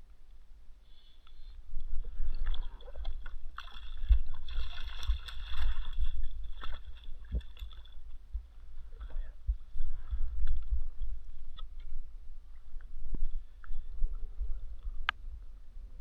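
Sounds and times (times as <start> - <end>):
low rumble: 1.6 - 16.0
water splashing around kayak: 1.6 - 16.0.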